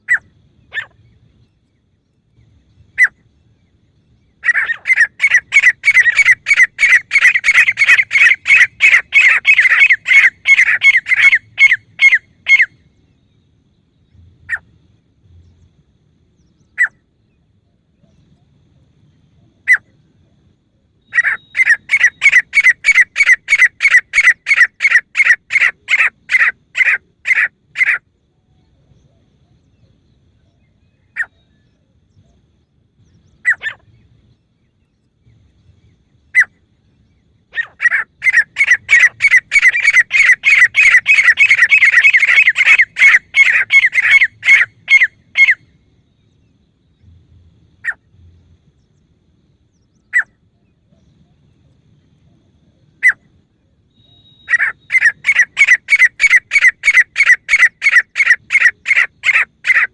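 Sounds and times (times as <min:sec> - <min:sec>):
francolin calling: 0:00.0 - 0:59.9.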